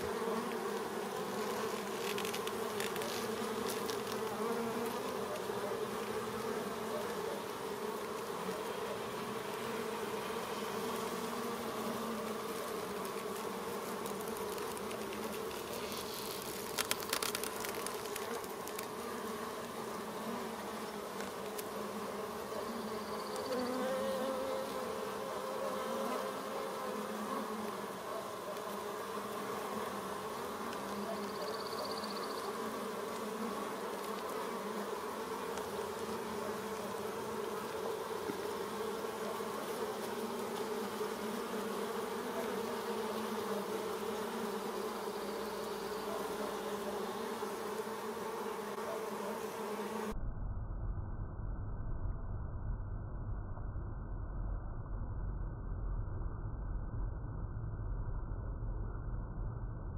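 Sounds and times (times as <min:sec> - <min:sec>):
honeybees buzzing: 0:00.0 - 0:50.1.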